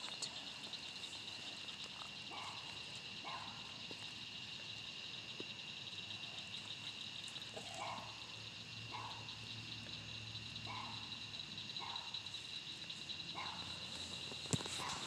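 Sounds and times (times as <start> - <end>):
insect chorus trilling: 0.0 - 15.0.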